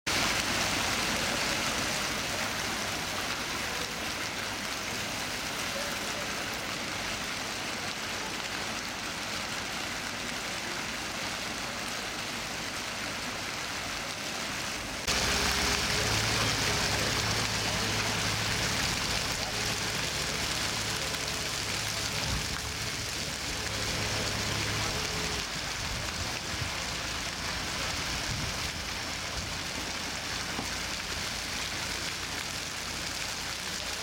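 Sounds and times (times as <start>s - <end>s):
water splashing down cascade: 0.1s - 34.0s.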